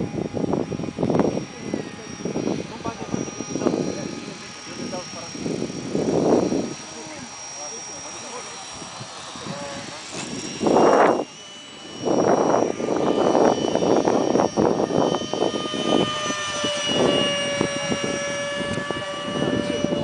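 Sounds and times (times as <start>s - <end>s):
model airplane motor whine: 0.0s - 20.0s.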